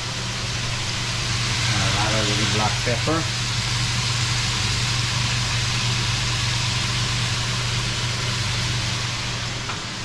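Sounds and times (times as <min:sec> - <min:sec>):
squash sizzling in a pan: 0:00.0 - 0:10.0
steady low hum: 0:00.0 - 0:10.0.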